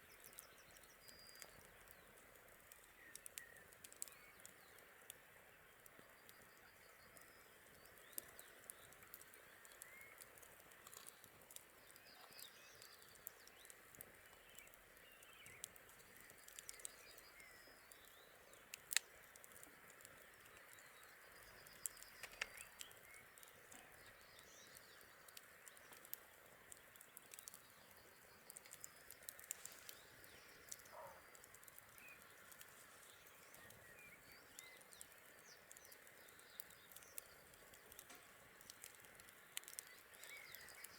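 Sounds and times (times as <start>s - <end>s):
campfire crackling and popping: 0.0s - 40.9s
faint steady hiss: 0.0s - 40.9s
faint bird chirps: 0.1s - 38.0s, 38.6s - 40.9s.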